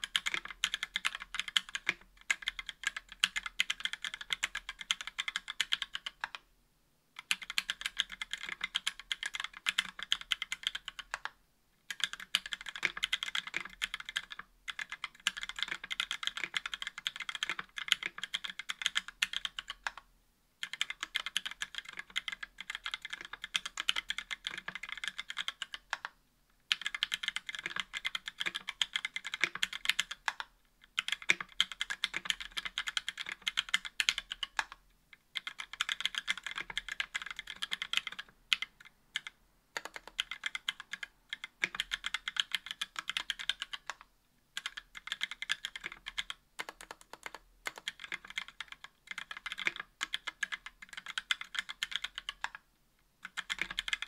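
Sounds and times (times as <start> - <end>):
keyboard typing: 0.0 - 6.4, 7.2 - 52.6, 53.2 - 54.0.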